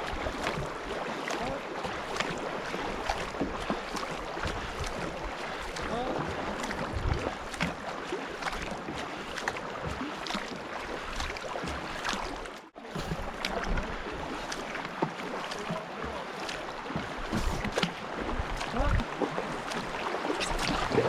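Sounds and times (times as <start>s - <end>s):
paddle strokes splashing: 0.0s - 21.0s
river water rushing: 0.0s - 21.0s.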